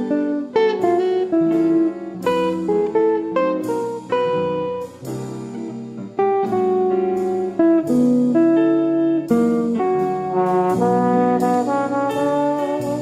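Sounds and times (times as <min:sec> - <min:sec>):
upbeat instrumental with brass: 0:00.0 - 0:13.0.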